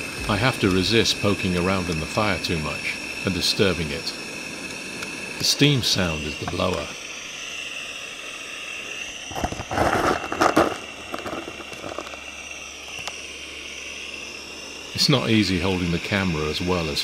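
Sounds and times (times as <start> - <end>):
steam blower hissing: 0.0 - 17.0.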